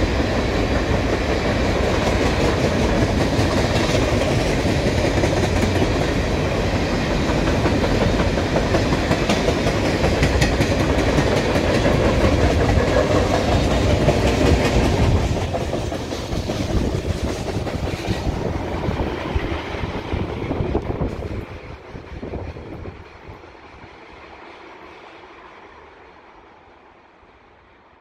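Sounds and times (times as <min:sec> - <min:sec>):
wheels clacking over rail joints: 0:00.0 - 0:22.8
steel wheels rumbling on rail: 0:00.0 - 0:27.8.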